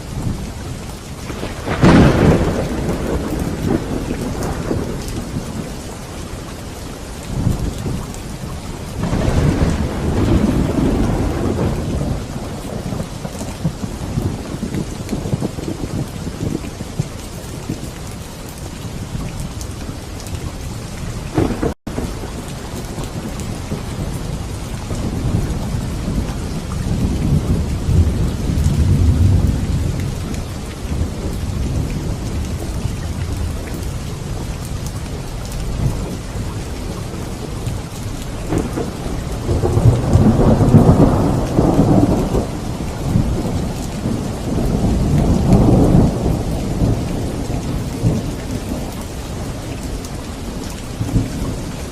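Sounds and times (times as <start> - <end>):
heavy rain: 0.0 - 51.9
rolling thunder: 0.1 - 17.9, 20.4 - 51.9.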